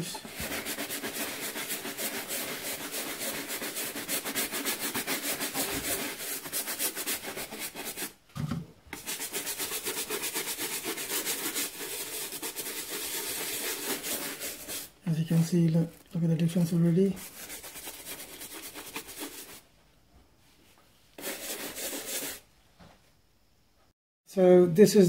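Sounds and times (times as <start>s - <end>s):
plastic brush scrubbing rubber sole: 0.0s - 8.1s, 8.9s - 19.6s, 21.2s - 22.4s.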